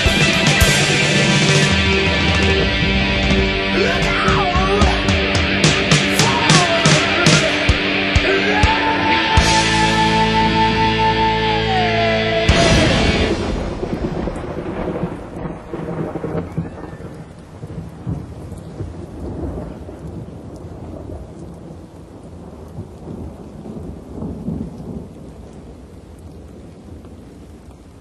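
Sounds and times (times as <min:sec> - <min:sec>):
thunder rolling: 0:00.0 - 0:27.3
steady rain: 0:00.0 - 0:28.0.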